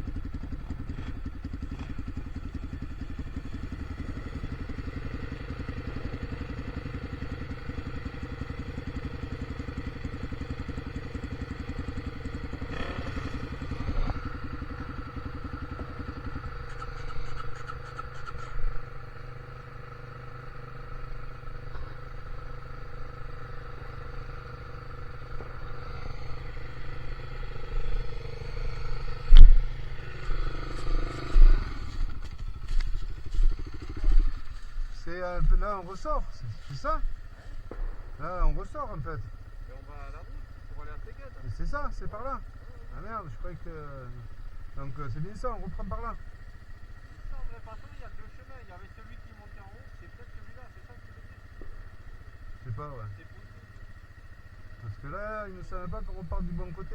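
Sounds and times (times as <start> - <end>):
vehicle engine running at low revs: 0.0 - 56.9.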